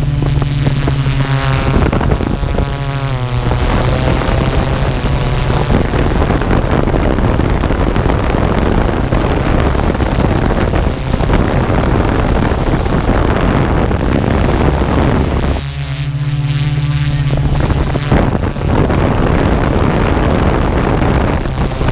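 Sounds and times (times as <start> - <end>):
drone propellers humming: 0.0 - 21.9
wind on microphone: 0.0 - 21.9.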